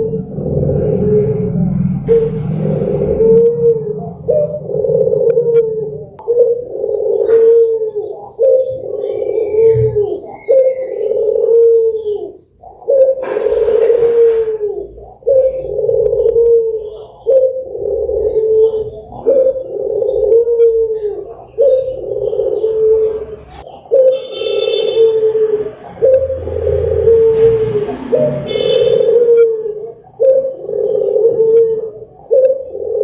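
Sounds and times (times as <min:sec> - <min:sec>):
doves cooing: 0:00.0 - 0:33.0.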